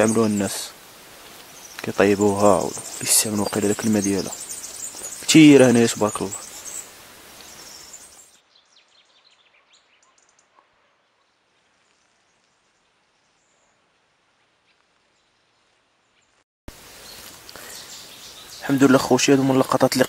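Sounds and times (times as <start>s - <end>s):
small birds chirping: 0.0s - 14.0s, 14.6s - 20.0s
faint outdoor ambience: 0.0s - 20.0s.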